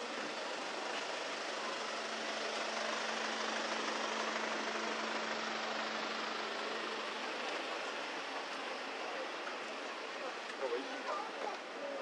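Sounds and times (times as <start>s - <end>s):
engine idling: 0.0s - 12.0s
street noise: 0.0s - 12.0s.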